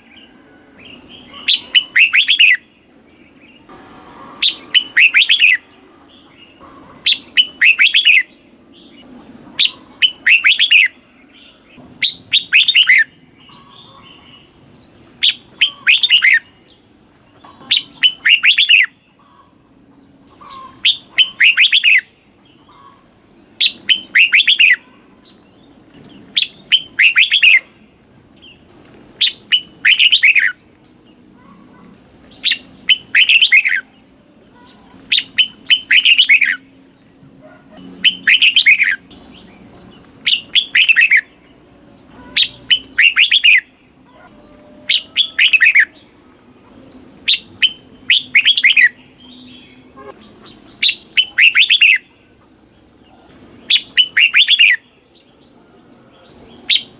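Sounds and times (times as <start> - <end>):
bulbul singing: 0.0 - 56.9.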